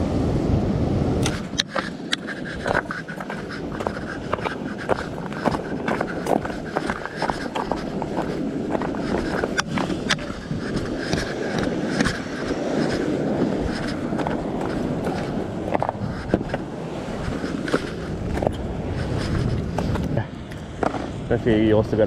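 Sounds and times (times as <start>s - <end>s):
surf rushing: 0.0s - 22.0s
footsteps on rock: 1.2s - 20.2s.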